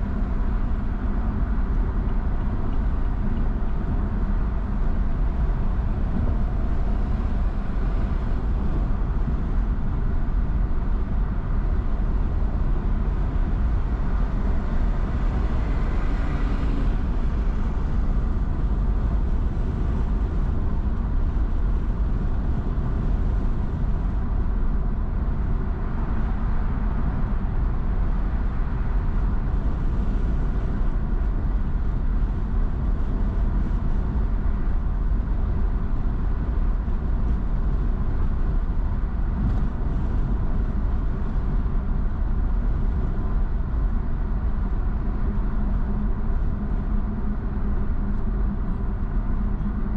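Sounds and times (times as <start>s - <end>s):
car engine rumble: 0.0s - 49.9s.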